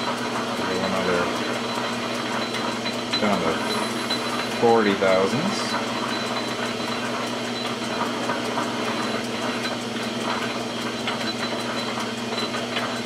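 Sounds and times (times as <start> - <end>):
metal lathe humming: 0.0 - 13.0.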